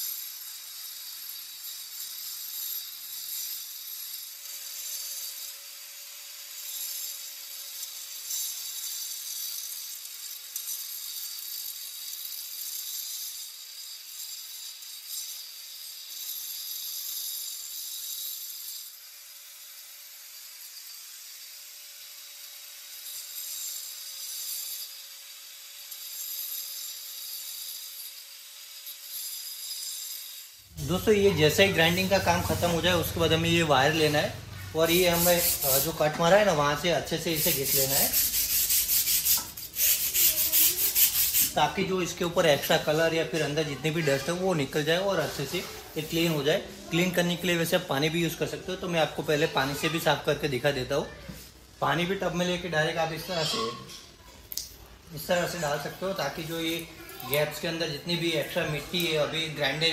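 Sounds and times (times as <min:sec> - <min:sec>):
angle grinder grinding concrete: 0:00.0 - 0:59.9.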